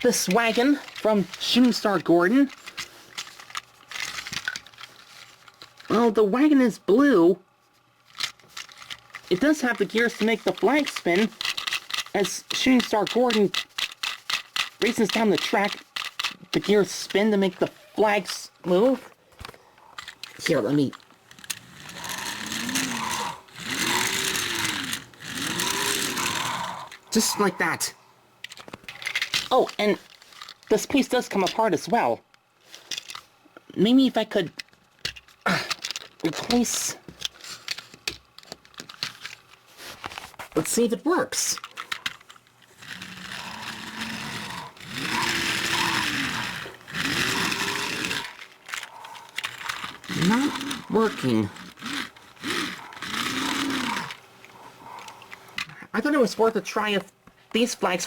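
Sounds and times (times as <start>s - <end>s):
plastic toy gears whirring: 0.0s - 7.2s, 8.0s - 57.0s.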